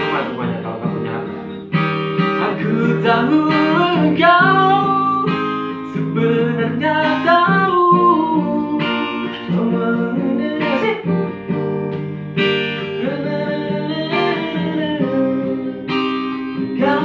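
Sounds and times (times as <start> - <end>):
acoustic guitar strumming chords: 0.0 - 17.0
person singing: 2.2 - 12.0, 12.6 - 17.0.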